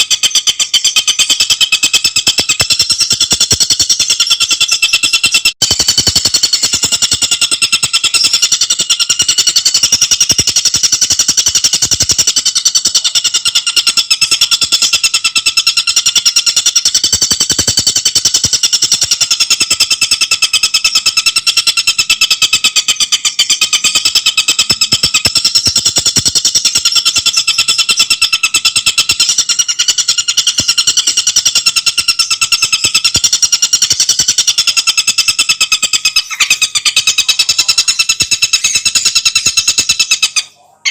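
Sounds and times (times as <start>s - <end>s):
bird calling in rapid high trill: 0.0s - 40.9s.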